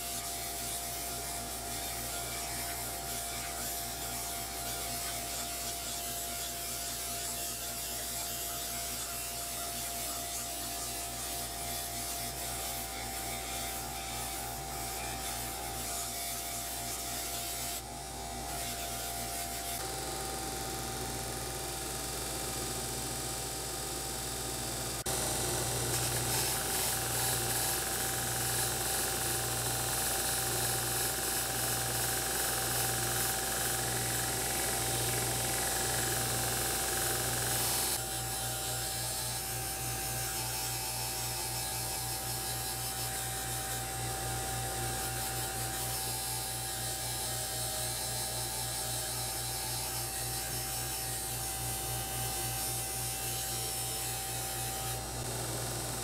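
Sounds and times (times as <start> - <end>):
belt grinder and drill humming: 0.0 - 56.0.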